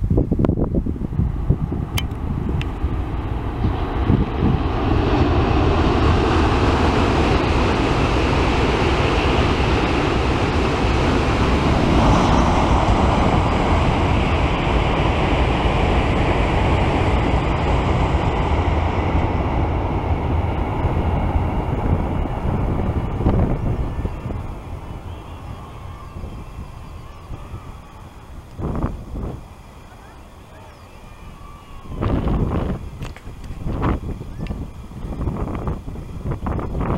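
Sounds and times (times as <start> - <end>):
train crossing bridge rumble: 0.0 - 36.9
wind buffeting microphone: 0.0 - 36.9.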